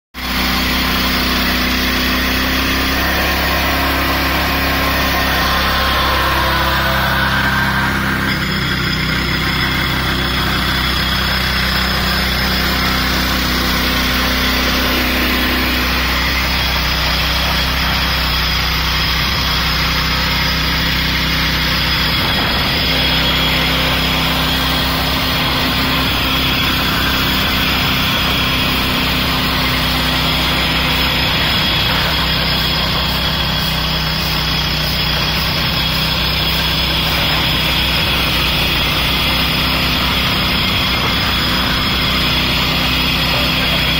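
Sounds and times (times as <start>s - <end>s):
petrol floor grinder running: 0.2s - 43.9s.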